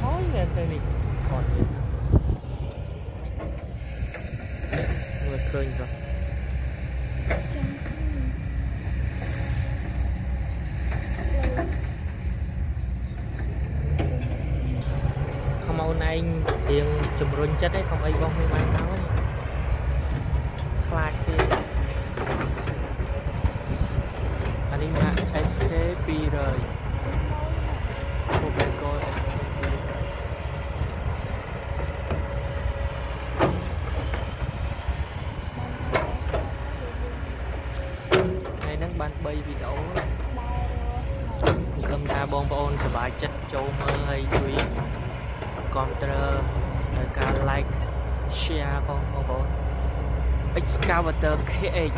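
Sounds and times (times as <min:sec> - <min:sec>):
diesel construction machinery rumbling: 0:00.0 - 0:51.9.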